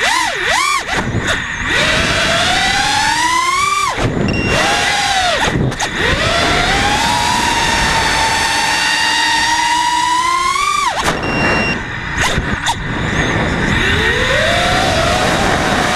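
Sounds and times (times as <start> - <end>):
drone motors whining: 0.0 - 15.9.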